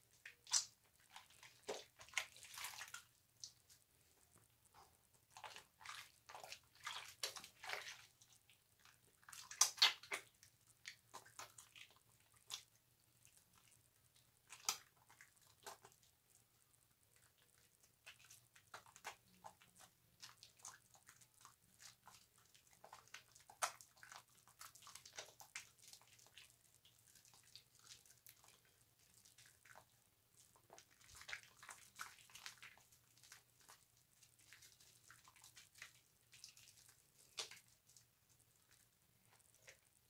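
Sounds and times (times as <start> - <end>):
soap lathering squelches: 0.0 - 40.0.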